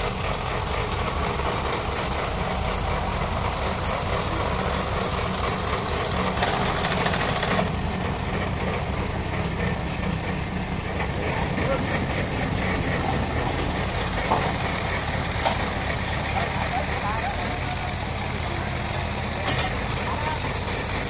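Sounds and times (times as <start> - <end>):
heavy engine running: 0.0 - 21.0.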